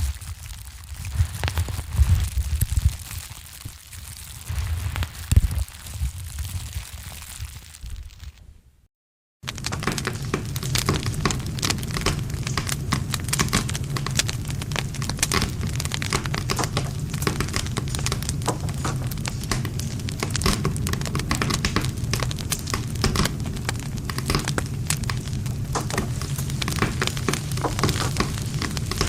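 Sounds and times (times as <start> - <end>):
wood fire crackling and popping: 0.0 - 8.4, 9.4 - 29.0
low rumble of flames: 0.0 - 8.6, 9.4 - 29.0.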